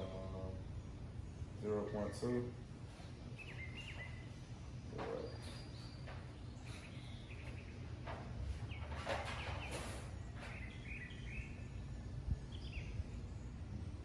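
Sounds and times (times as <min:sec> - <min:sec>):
faint bird chirps: 0:00.0 - 0:13.8
steady low hum: 0:00.0 - 0:14.0.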